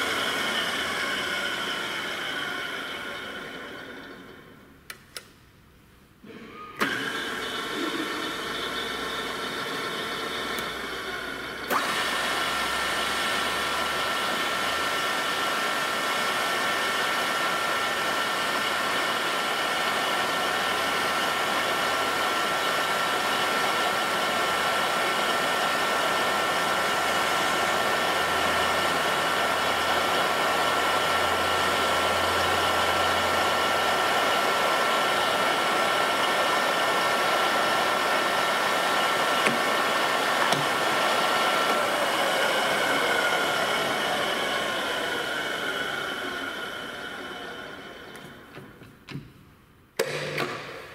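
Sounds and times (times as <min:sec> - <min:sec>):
drill motor whirring: 0:06.8 - 0:48.8.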